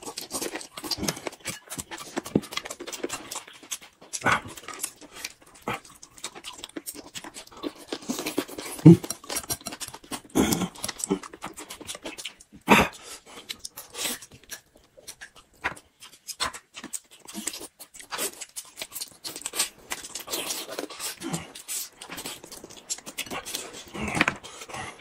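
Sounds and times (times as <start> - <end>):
wet chewing smacks and clicks: 0.0 - 25.0.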